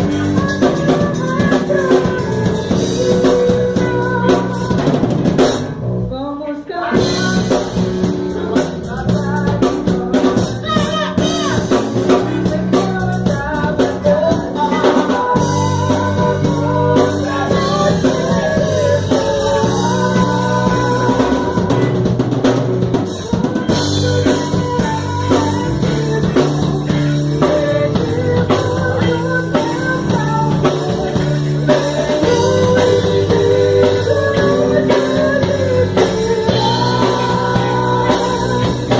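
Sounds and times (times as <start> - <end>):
drum kit: 0.0 - 6.1, 6.9 - 38.9
electric guitar: 0.0 - 6.2, 6.9 - 38.9
bass guitar: 0.0 - 38.9
keyboard: 0.0 - 38.9.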